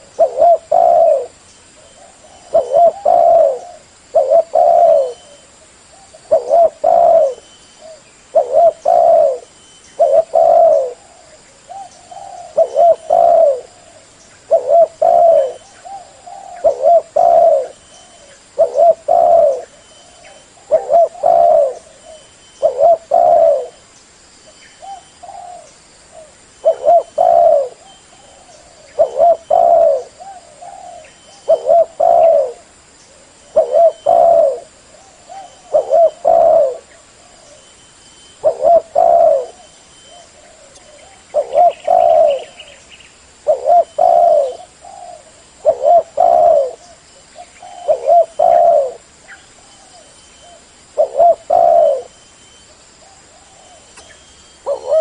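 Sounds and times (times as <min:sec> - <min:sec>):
dove cooing: 0:00.0 - 0:23.8, 0:24.8 - 0:42.8, 0:43.4 - 0:52.2, 0:53.0 - 0:55.0.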